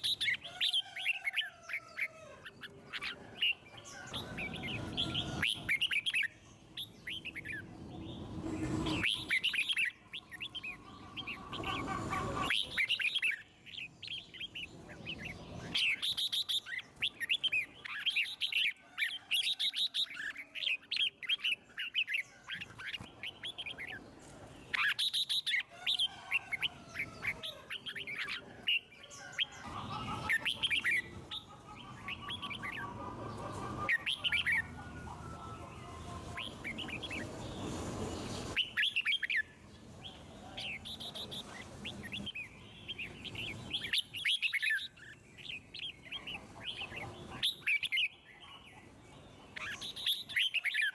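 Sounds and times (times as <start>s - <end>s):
birds chirping: 0.0s - 50.9s
low background noise: 0.0s - 50.9s.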